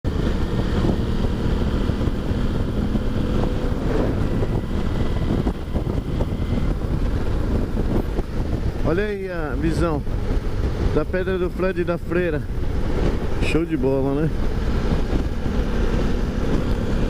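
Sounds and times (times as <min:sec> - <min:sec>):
motorcycle engine running: 0:00.1 - 0:17.0
wind noise on microphone: 0:00.1 - 0:17.0.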